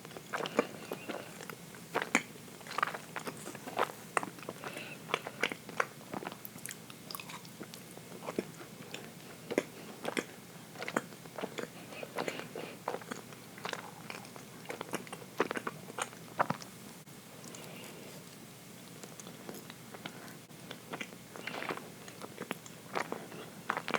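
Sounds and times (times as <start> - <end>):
chewing cake with mouth clicks: 0.0 - 23.9.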